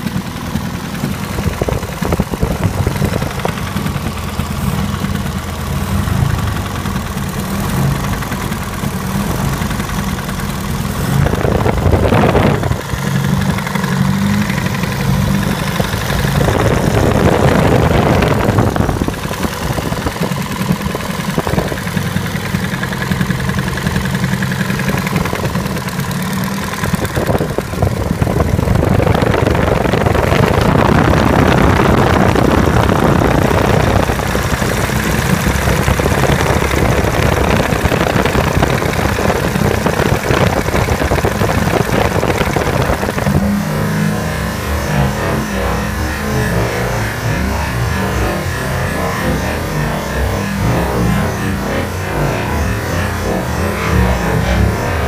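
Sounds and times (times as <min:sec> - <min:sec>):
engine idling with a knock: 0:00.0 - 0:44.2.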